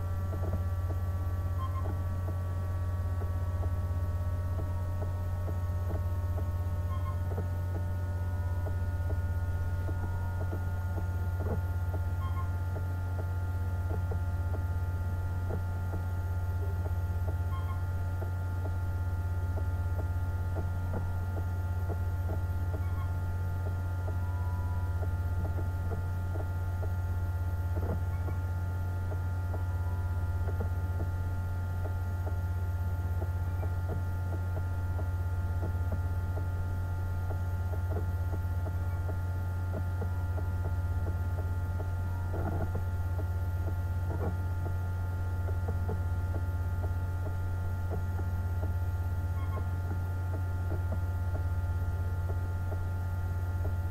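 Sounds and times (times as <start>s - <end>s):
low machine hum: 0.0s - 53.9s.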